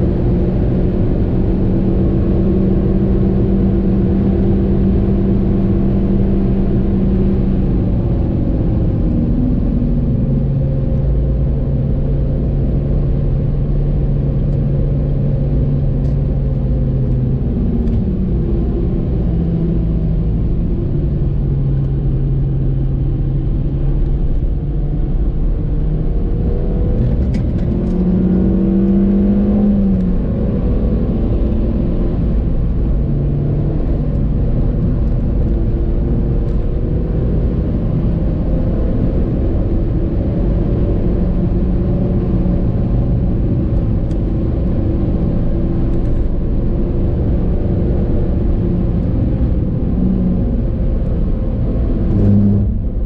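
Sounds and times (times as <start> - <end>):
car engine accelerating hard: 0.0 - 53.0
road and tyre noise: 0.0 - 53.0.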